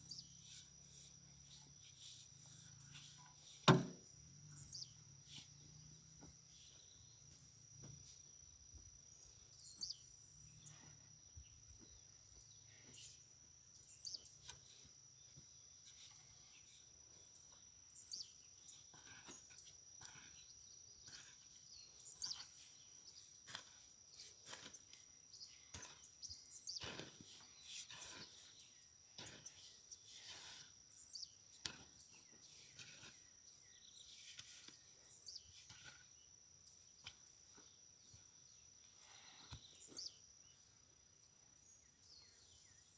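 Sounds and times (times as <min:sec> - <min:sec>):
high-pitched insect trill: 0:00.0 - 0:42.9.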